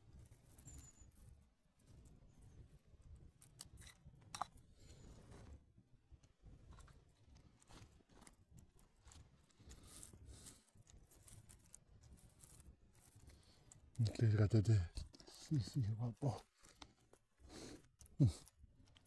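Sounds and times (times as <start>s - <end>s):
faint clicks and crackles: 0.0s - 19.0s.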